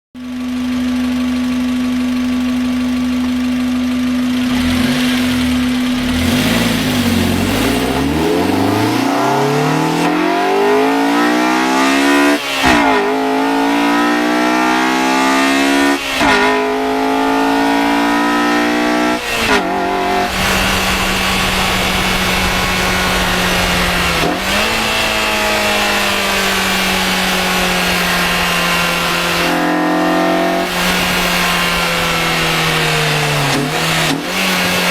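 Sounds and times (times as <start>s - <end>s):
car engine accelerating: 0.2s - 34.9s.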